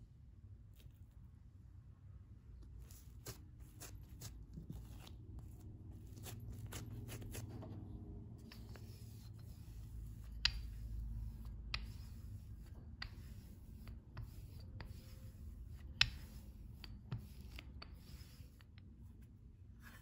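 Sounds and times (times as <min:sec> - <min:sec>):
dough rubbing on surface: 0:02.6 - 0:20.0.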